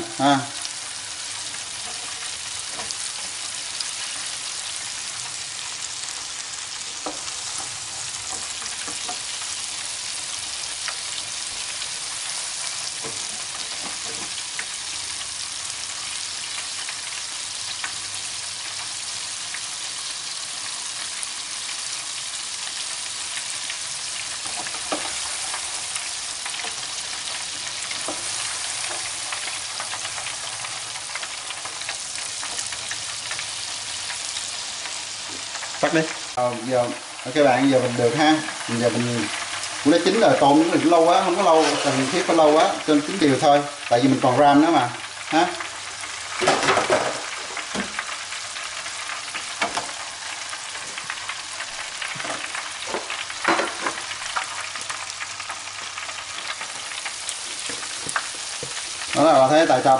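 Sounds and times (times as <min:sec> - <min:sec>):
shrimp sizzling in hot oil: 0:00.0 - 0:59.9.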